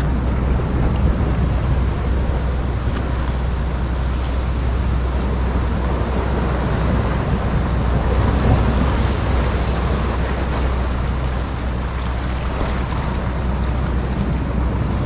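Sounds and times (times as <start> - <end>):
surf breaking on rocks: 0.0 - 14.9
wind buffeting microphone: 0.0 - 15.0.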